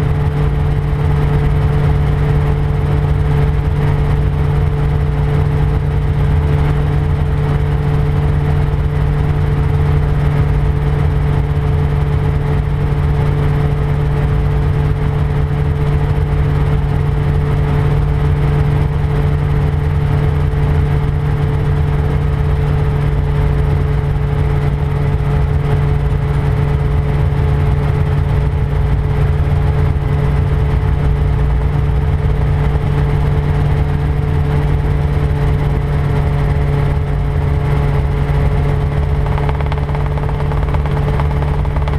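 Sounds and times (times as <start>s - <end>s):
helicopter engine and rotors droning: 0.0s - 41.9s.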